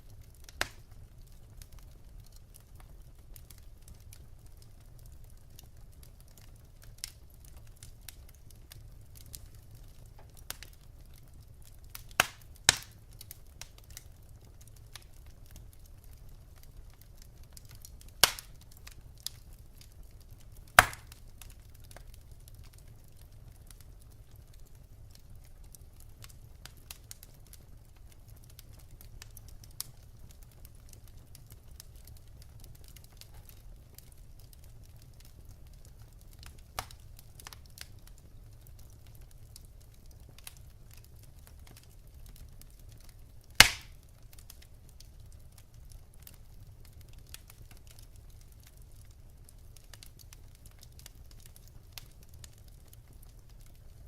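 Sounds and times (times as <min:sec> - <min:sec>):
burning logs popping: 0:00.0 - 0:54.0
wood fire crackling: 0:00.0 - 0:54.0.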